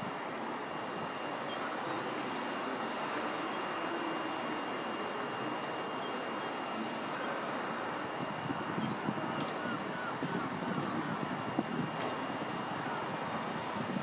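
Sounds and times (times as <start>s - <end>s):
flock of birds rushing hiss: 0.0s - 14.0s.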